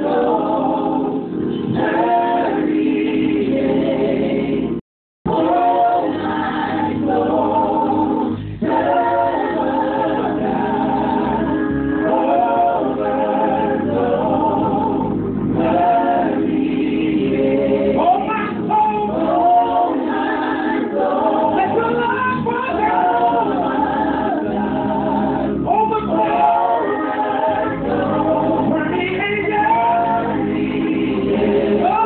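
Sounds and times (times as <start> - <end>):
group of people singing: 0.0 - 32.0.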